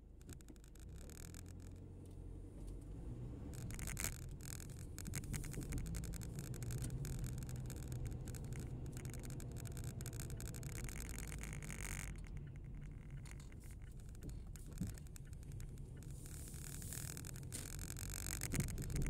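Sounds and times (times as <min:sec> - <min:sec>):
engine and tyres rumbling in car: 0:00.0 - 0:19.0
light rattling clicks: 0:00.0 - 0:19.0.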